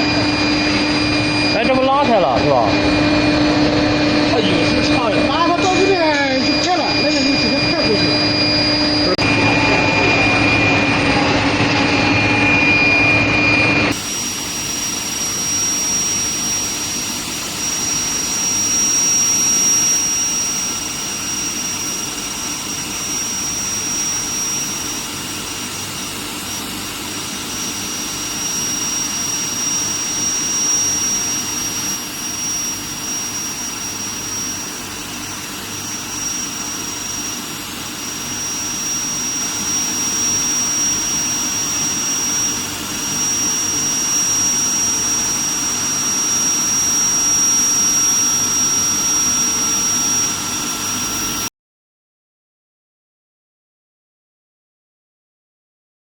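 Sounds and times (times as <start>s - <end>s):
loud mid-pitched hum: 0.0s - 51.5s
machine high-pitched whine: 0.0s - 51.5s.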